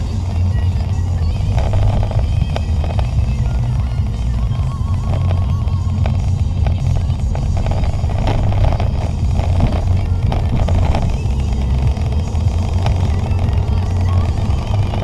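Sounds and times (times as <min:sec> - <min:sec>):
car engine: 0:00.0 - 0:15.0
road noise inside car: 0:00.0 - 0:15.0.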